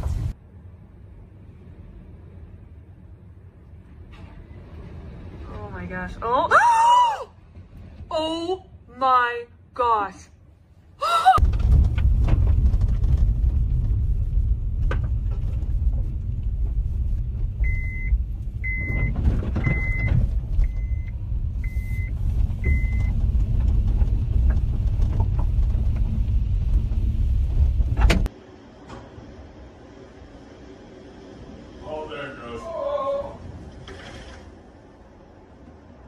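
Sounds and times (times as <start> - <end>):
loud irregular low rumble: 0.0 - 36.0.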